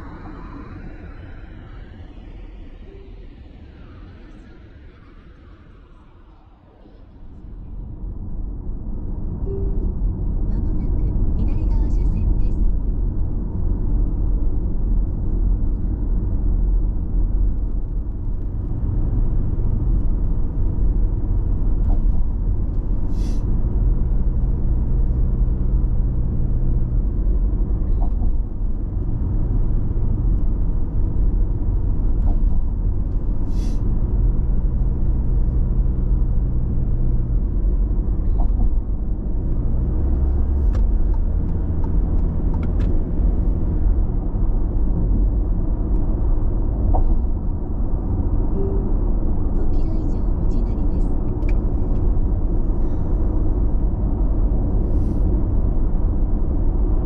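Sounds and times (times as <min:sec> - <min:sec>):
low hum: 0:00.0 - 0:57.0
tyre and engine rumble: 0:07.3 - 0:57.0.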